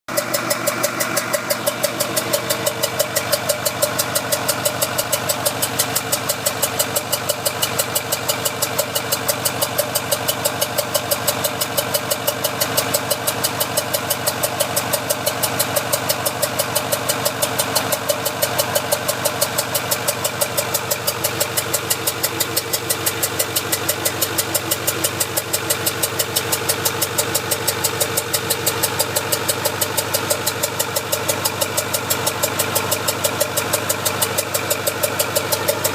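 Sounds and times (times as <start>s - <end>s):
diesel engine idling with popping: 0.1s - 35.9s.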